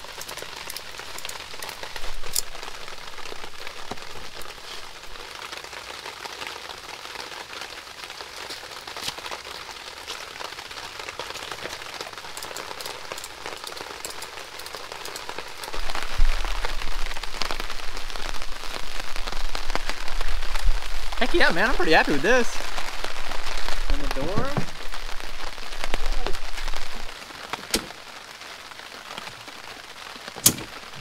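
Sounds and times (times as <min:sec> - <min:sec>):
rain drumming on plastic tarp: 0:00.0 - 0:31.0
sharp raindrops hitting close: 0:00.0 - 0:31.0
steady rain falling: 0:00.0 - 0:31.0.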